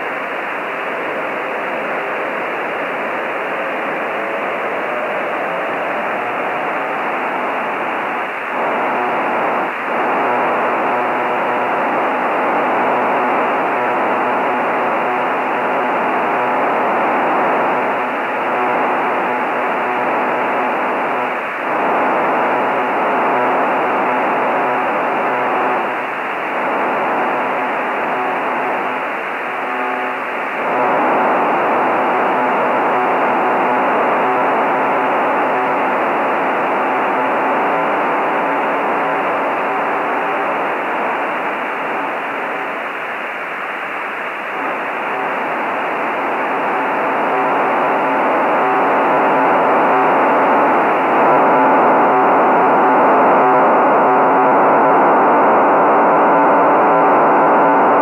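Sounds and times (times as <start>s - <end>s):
dense buzzing signal: 3.8s - 43.0s, 44.4s - 58.0s.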